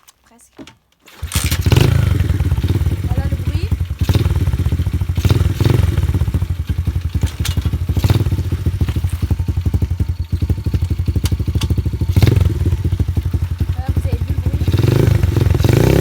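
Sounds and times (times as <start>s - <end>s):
dirt bike engine putter: 0.0s - 16.0s.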